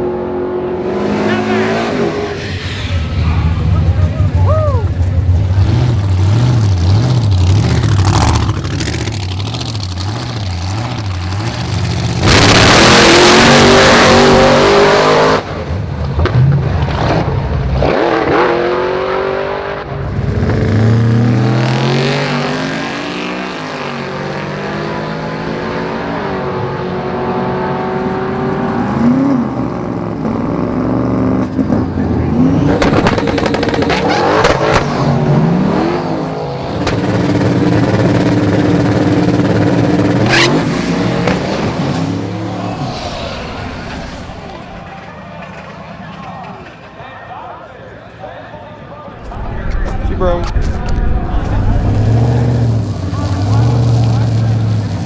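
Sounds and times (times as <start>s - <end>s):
drag racing engines revving: 0.0s - 46.9s, 50.9s - 55.0s.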